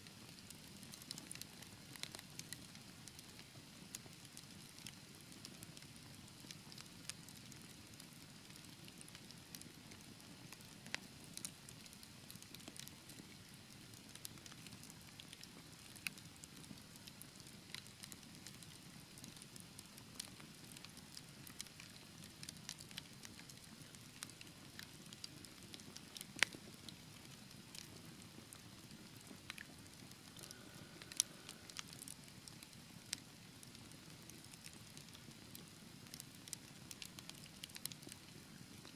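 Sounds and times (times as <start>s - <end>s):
fireplace fire crackling: 0.0s - 38.9s.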